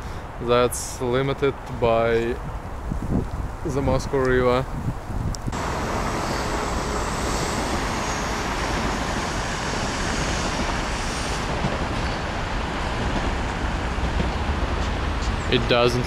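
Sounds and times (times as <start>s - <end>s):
dense highway traffic: 0.0s - 16.0s.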